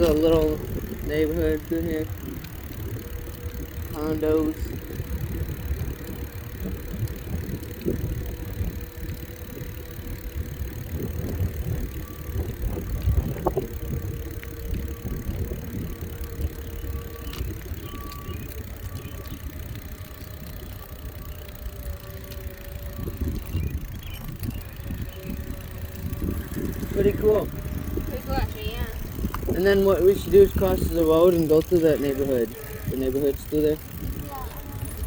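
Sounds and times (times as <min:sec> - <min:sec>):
bicycle clicks and rattles: 0:00.0 - 0:35.0
bicycle riding rumble: 0:00.0 - 0:35.0
wind buffeting microphone: 0:00.0 - 0:35.0.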